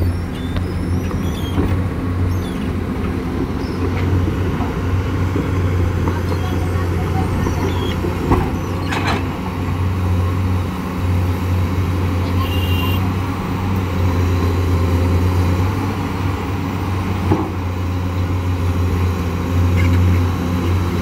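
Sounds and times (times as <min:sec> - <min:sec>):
diesel engines droning: 0:00.0 - 0:21.0
heavy truck running: 0:00.0 - 0:21.0.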